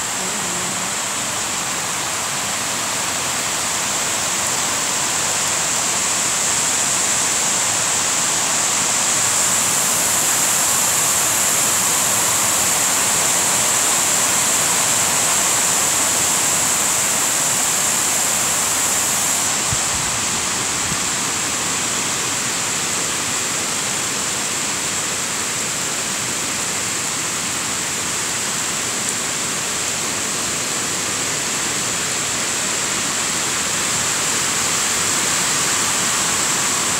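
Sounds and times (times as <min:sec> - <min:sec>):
rain falling on leaves: 0:00.0 - 0:36.9.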